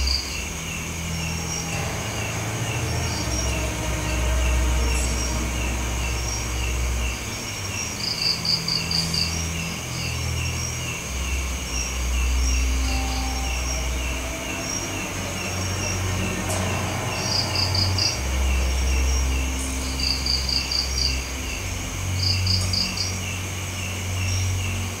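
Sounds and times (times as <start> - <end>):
low rumble: 0.0 - 22.2
crickets chirping: 0.0 - 25.0.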